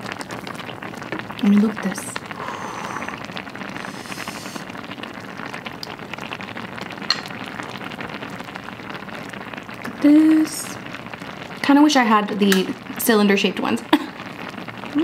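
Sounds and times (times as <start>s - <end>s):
pot bubbling: 0.0s - 15.0s.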